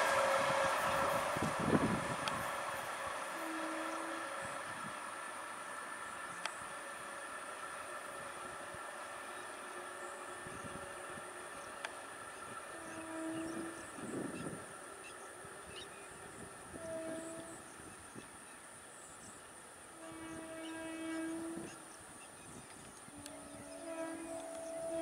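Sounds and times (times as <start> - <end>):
train horn two-note blasts: 0.0 - 18.2, 19.8 - 22.3, 23.1 - 25.0
train on rails: 0.0 - 25.0.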